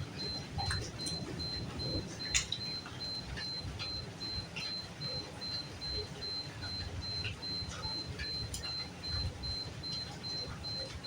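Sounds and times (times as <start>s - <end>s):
rain drips tapping: 0.0s - 11.0s.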